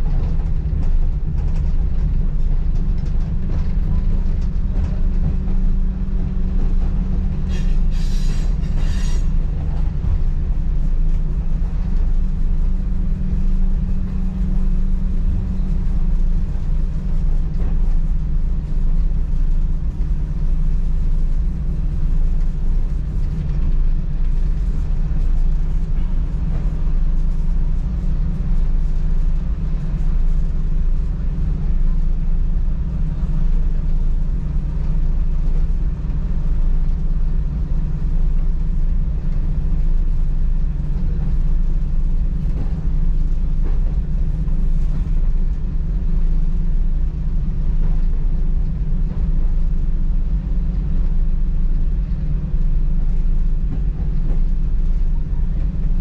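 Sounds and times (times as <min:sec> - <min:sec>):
train diesel engine drone: 0:00.0 - 0:56.0.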